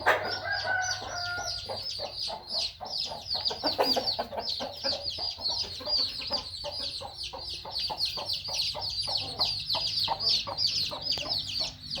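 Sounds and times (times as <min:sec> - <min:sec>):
chickens clucking: 0:00.0 - 0:12.0
chicks peeping: 0:00.0 - 0:12.0.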